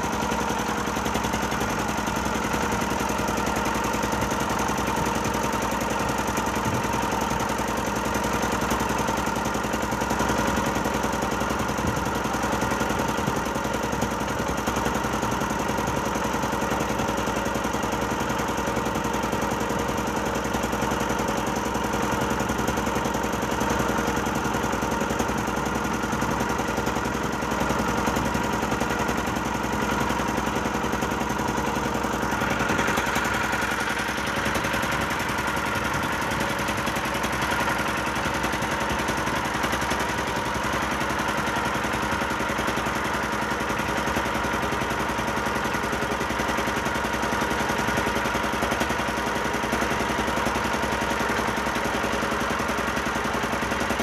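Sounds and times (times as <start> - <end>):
ferry engine droning: 0.0 - 46.6.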